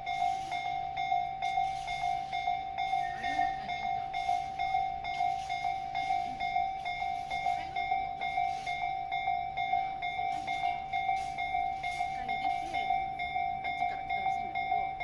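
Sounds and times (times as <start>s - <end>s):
level crossing alarm ringing: 0.0s - 15.0s
train running: 0.0s - 15.0s.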